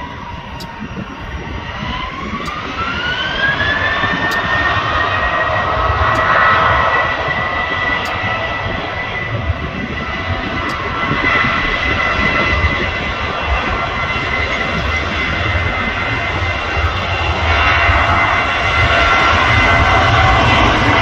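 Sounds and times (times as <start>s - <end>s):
jet engine whine rising: 0.0s - 21.0s
low rumble: 0.0s - 21.0s.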